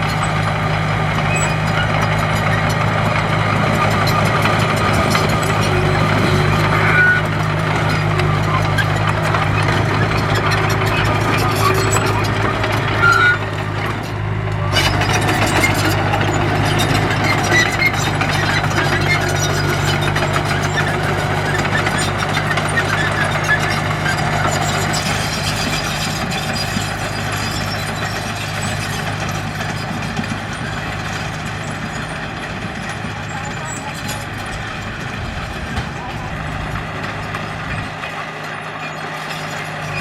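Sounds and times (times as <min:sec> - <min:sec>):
heavy machinery diesel engine: 0:00.0 - 0:40.0
light engine clatter: 0:00.0 - 0:40.0.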